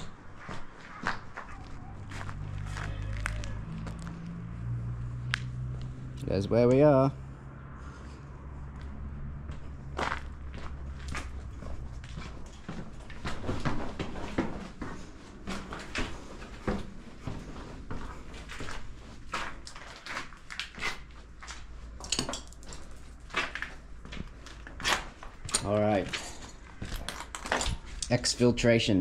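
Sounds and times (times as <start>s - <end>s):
footsteps crunching on gritty tiles: 0.0s - 6.0s, 8.7s - 28.2s.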